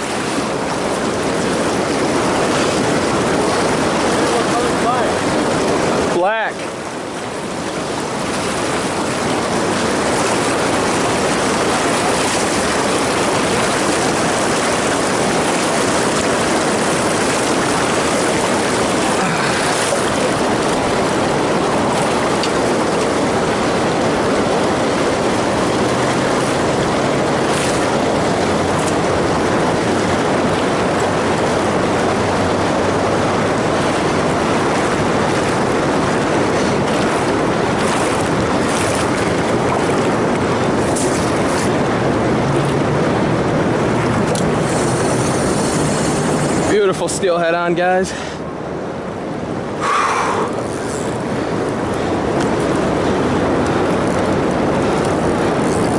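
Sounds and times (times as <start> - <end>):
river rushing through rapids: 0.0 - 55.9.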